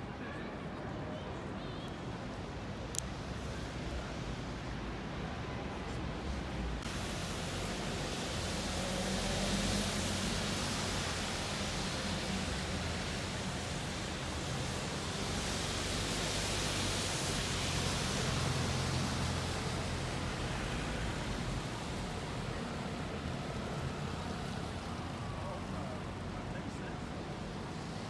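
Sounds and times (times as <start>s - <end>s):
rushing road noise: 1.4s - 28.0s.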